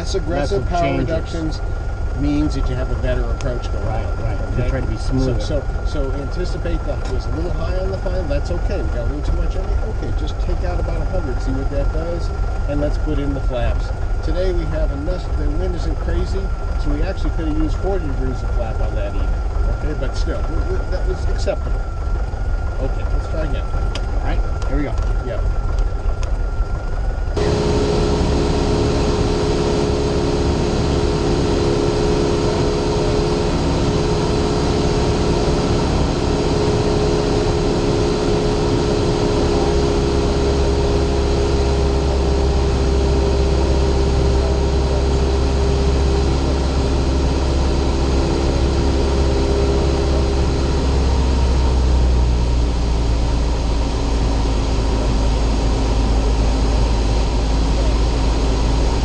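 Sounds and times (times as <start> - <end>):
propeller airplane engine droning: 0.0 - 59.0.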